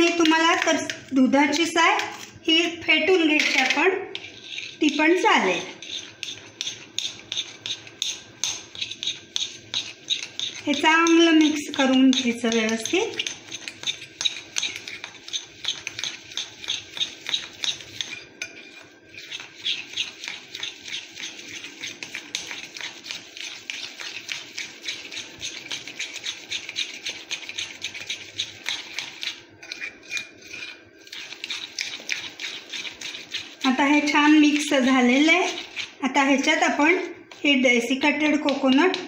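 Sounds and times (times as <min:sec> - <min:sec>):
spoon scraping glass bowl: 0:00.0 - 0:39.0.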